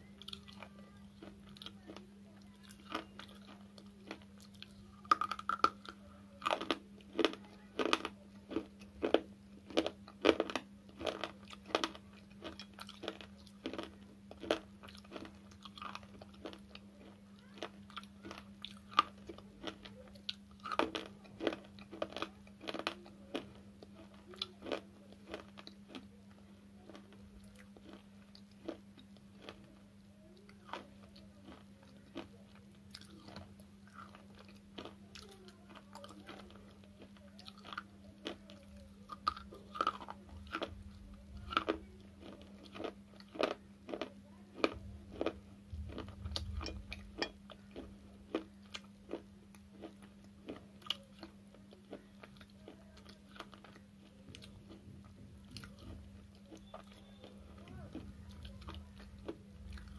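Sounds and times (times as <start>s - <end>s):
crunchy chewing: 0.0s - 59.9s
steady low hum: 0.0s - 59.9s.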